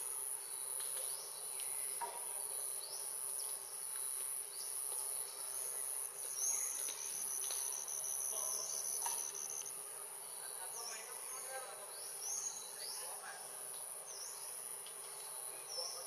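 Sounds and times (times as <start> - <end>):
insects droning: 0.0 - 16.0
rapidly pulsing insect trill: 0.0 - 16.0.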